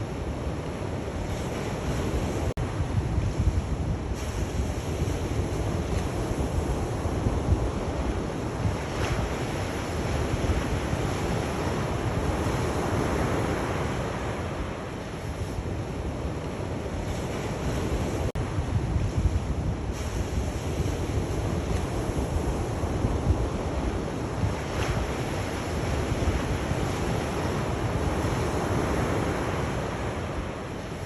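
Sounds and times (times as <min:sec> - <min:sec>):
sea waves washing ashore: 0:00.0 - 0:31.0
wind rumble on microphone: 0:00.0 - 0:31.0.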